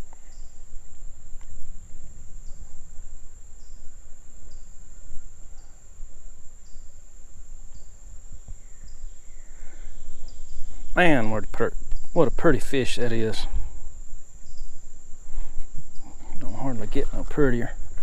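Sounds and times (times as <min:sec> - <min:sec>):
insects high-pitched drone: 0:00.0 - 0:18.0
lower insect chirp: 0:00.0 - 0:18.0.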